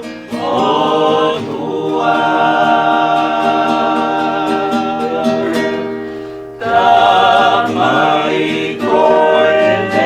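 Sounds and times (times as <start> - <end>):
group singing a hymn: 0.0 - 10.0.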